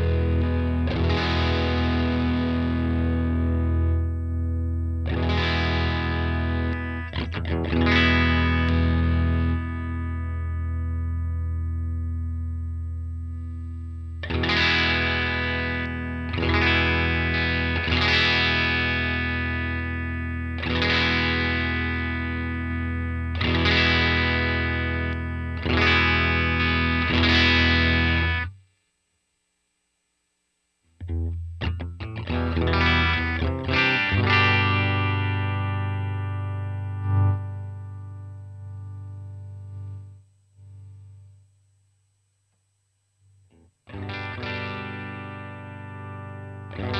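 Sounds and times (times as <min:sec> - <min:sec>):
electric guitar chords ringing: 0:00.0 - 0:28.5, 0:31.0 - 0:41.3, 0:43.9 - 0:46.9.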